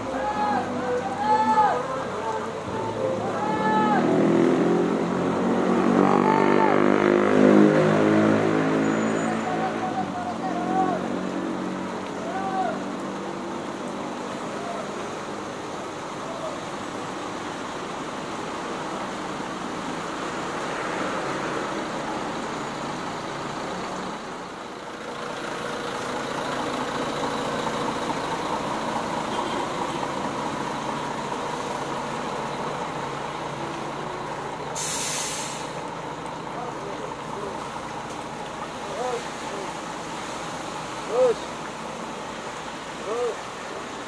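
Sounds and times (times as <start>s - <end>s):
bus diesel engines running: 0.0s - 44.0s
rain hissing: 7.8s - 44.0s.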